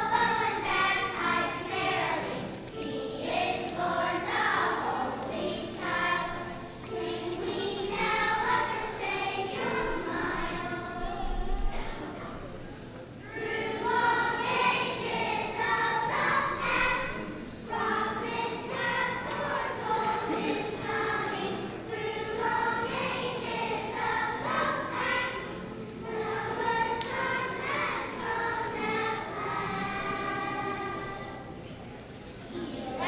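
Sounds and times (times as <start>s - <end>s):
children's choir singing: 0.0s - 33.0s.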